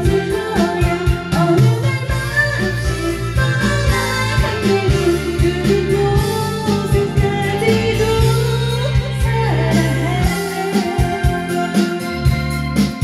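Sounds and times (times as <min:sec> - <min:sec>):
ballad over speakers: 0:00.0 - 0:13.0
person singing: 0:00.0 - 0:13.0.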